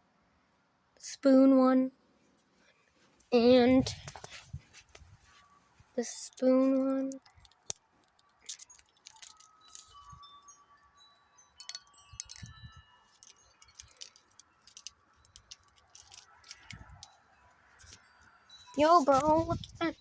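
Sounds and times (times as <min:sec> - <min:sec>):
wind chimes clinking: 0:03.4 - 0:20.0.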